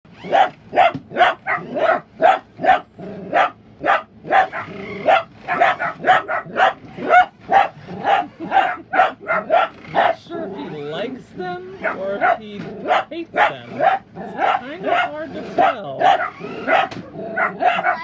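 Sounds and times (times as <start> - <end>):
dog barking: 0.2 - 10.6, 11.8 - 18.0.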